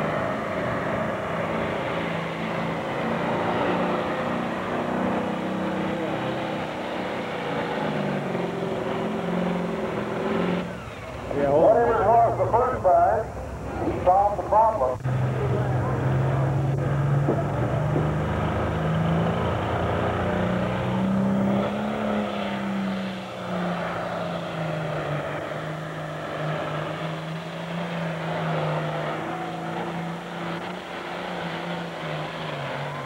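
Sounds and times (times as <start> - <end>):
diesel engine under heavy load: 0.0 - 33.0.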